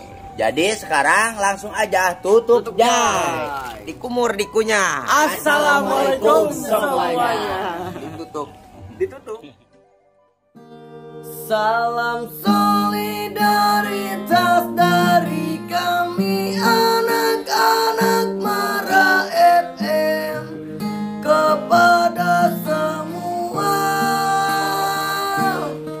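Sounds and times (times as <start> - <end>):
strummed acoustic guitar music: 0.0 - 9.0, 9.7 - 26.0.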